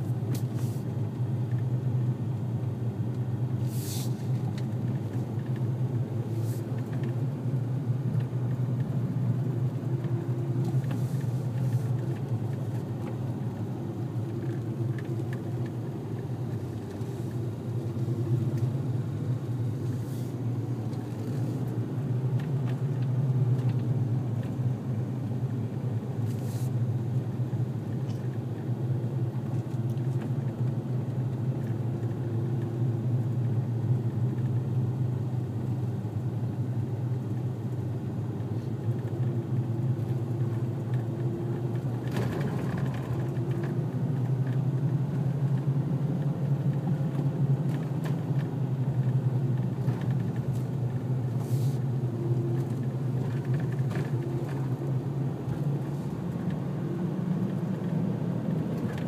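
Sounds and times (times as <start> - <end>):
car rolling down road: 0.2 - 59.0.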